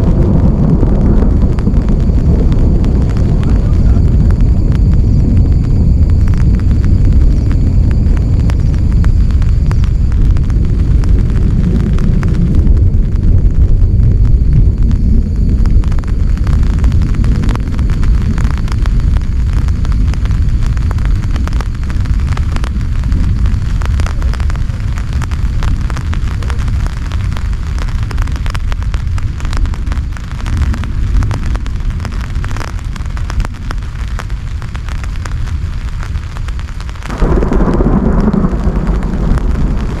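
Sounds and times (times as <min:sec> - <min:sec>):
constant low rumble: 0:00.0 - 0:40.0
heavy rain pelting a tent: 0:00.0 - 0:40.0.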